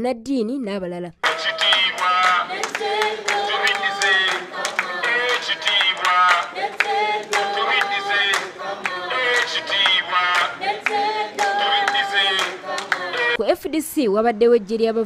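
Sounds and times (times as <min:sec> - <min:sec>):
group singing: 0:01.2 - 0:13.4
hands clapping in time: 0:01.2 - 0:13.4.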